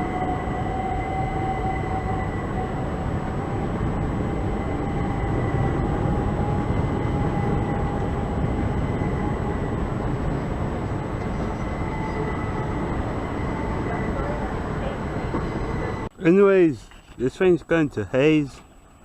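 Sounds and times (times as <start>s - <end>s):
electric train rumbling: 0.0s - 16.8s
faint train whine: 0.0s - 19.0s.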